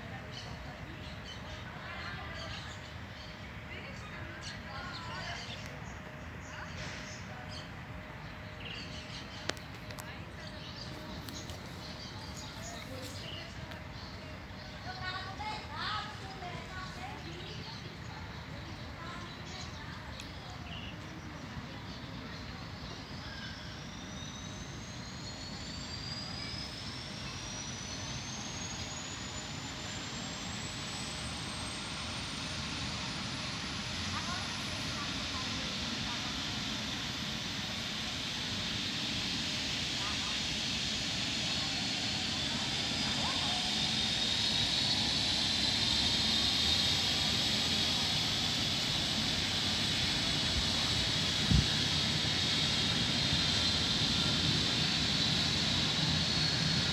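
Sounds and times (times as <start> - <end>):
turbine engine spooling up: 6.7 - 56.9.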